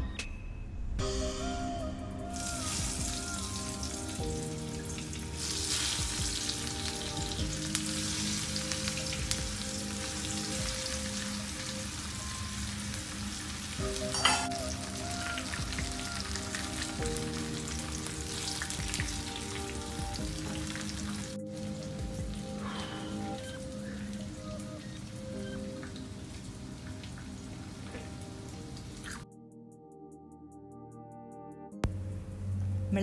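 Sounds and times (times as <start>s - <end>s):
soft background music: 0.0s - 33.0s.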